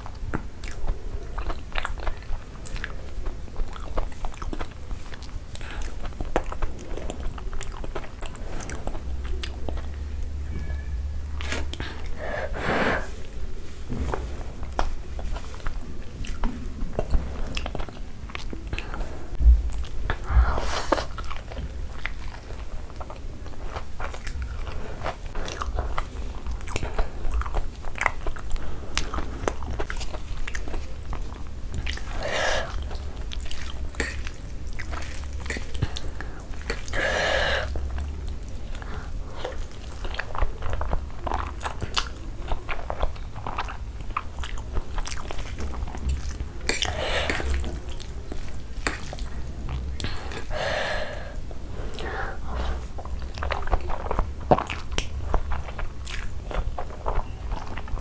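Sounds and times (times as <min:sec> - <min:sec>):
chewing with wet clicks and smacks: 0:00.0 - 0:10.4, 0:14.7 - 0:19.0, 0:20.9 - 0:37.0, 0:37.6 - 0:50.6, 0:51.9 - 0:58.0.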